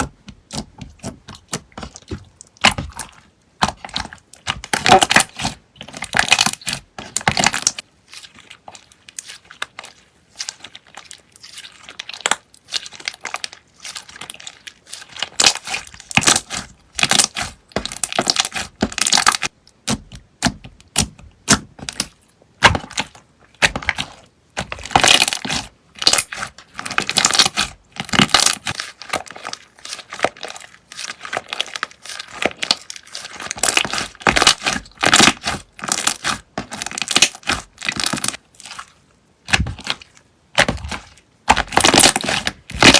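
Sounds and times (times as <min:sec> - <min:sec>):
slime crackling and popping: 0:00.0 - 0:07.8, 0:09.1 - 0:38.4, 0:39.4 - 0:42.9.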